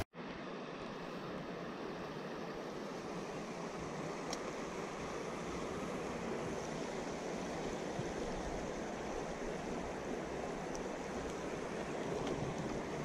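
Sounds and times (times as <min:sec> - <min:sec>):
creek flowing over rocks: 0:00.2 - 0:13.0.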